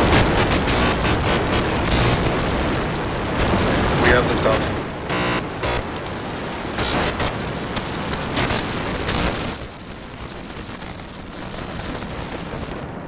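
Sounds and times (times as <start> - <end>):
rocket engines roaring with crackle: 0.0 - 13.0.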